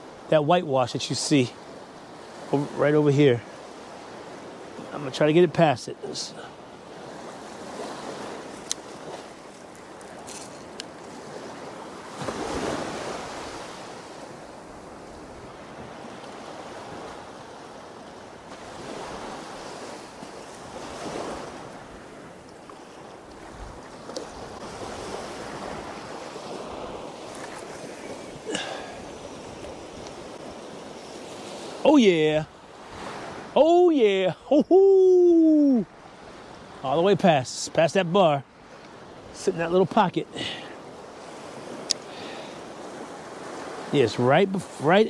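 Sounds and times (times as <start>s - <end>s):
ocean surf on beach: 0.0s - 45.0s.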